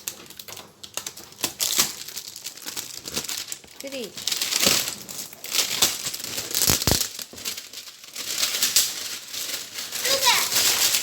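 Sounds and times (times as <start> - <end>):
plastic and paper wrapping crinkling: 0.0 - 11.0.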